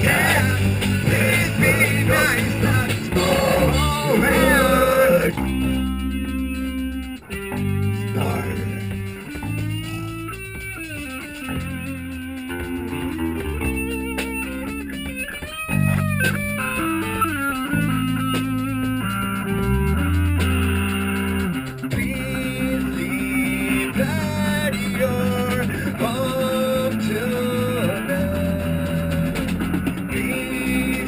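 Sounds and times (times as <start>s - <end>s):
bass guitar: 0.0s - 31.0s
electric guitar playing: 0.0s - 31.0s.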